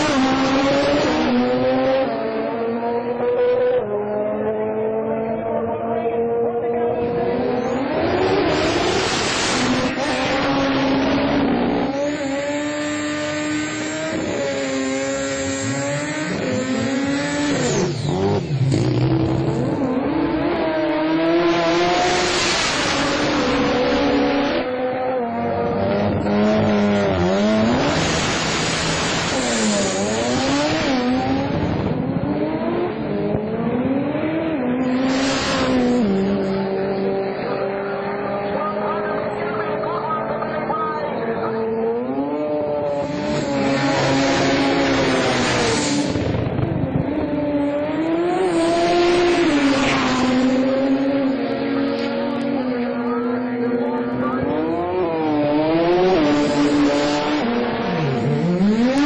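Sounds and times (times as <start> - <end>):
drag car engines revving: 0.0 - 59.0.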